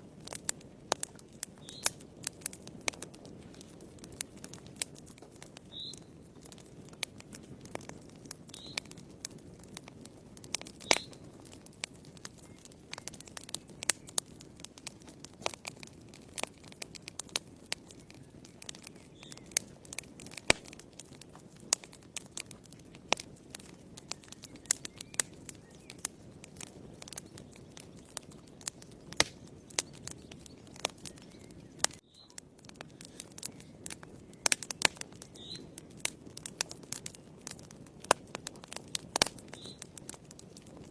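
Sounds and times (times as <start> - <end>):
low rush of flame: 0.0 - 40.9
wood fire crackling and popping: 0.0 - 40.9.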